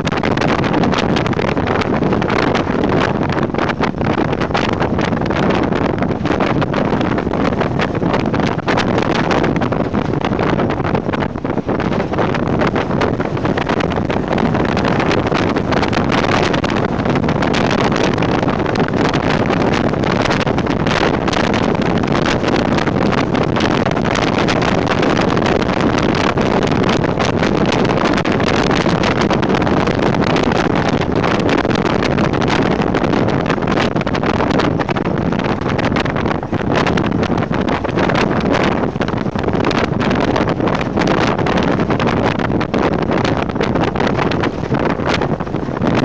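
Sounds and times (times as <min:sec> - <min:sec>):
tyre noise on dirt road: 0:00.0 - 0:46.0
wind buffeting microphone: 0:00.0 - 0:46.0.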